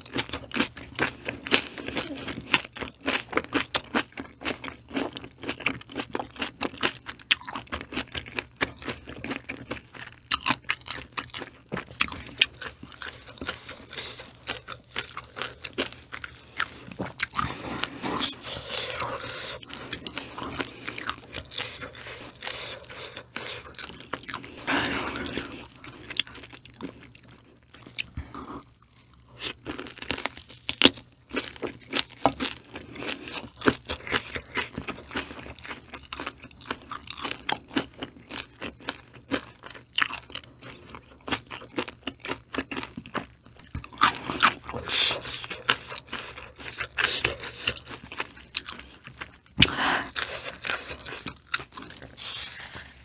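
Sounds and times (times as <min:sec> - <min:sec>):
crunchy chewing: 0:00.0 - 0:53.0.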